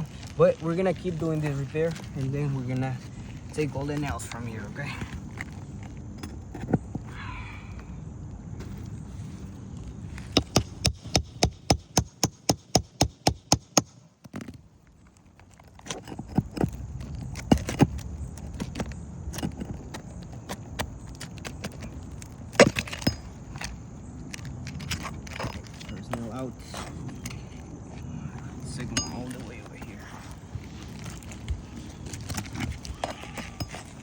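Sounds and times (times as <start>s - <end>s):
tool and shingle clicks and scrapes: 0.0s - 7.1s, 9.7s - 34.0s.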